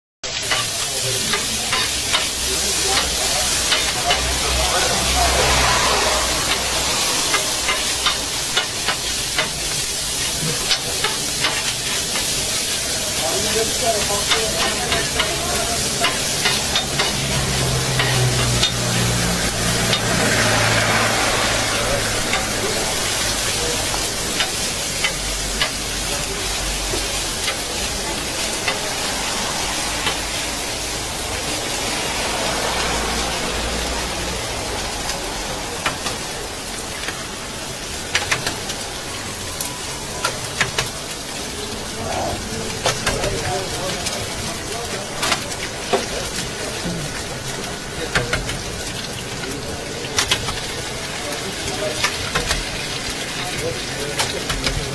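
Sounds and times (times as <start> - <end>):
meat sizzling on griddle: 0.2 - 54.9.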